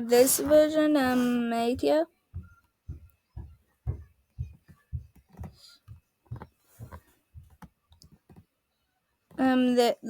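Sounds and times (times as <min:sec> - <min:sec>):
faint clicks and taps: 0:00.4 - 0:08.5.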